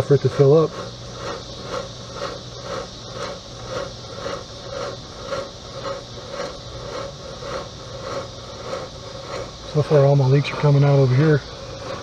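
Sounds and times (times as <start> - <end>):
smoke machine pulsing hum: 0.0 - 12.0.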